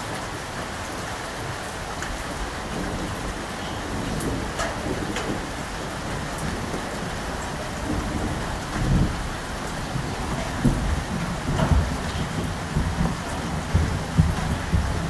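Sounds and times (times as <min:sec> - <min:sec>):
heavy rain falling: 0:00.0 - 0:15.0
thunder rumbling: 0:01.4 - 0:15.0.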